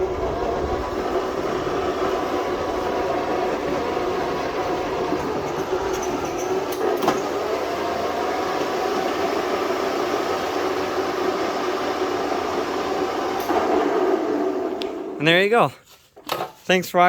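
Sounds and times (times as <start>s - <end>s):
electric motor whining: 0.0s - 15.2s.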